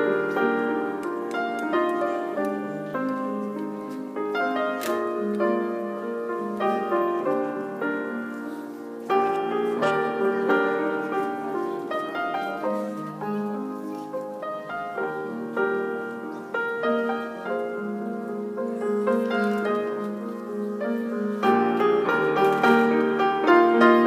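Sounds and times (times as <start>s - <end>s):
solo grand piano: 0.0s - 24.0s.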